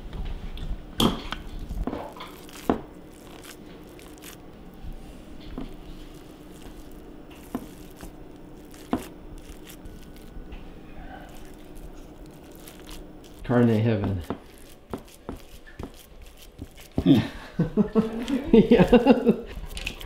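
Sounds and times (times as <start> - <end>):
wet peeling and squishing: 1.2 - 17.2, 19.5 - 20.0.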